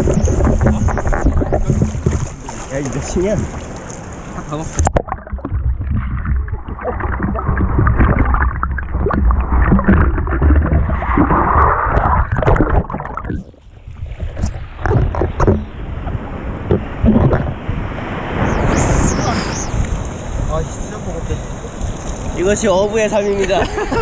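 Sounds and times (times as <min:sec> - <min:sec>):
surf: 0:00.0 - 0:24.0
wind buffeting microphone: 0:00.0 - 0:24.0.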